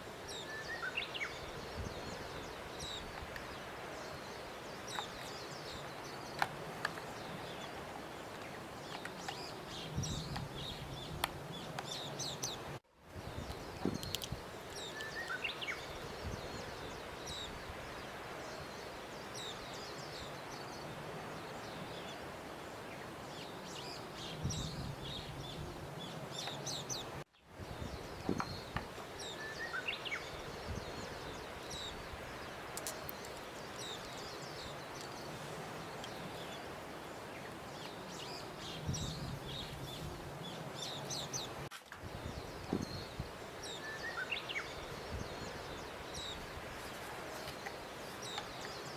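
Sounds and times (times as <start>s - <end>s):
steady background hiss: 0.0s - 48.9s
small birds chirping: 0.2s - 7.8s, 8.4s - 48.9s.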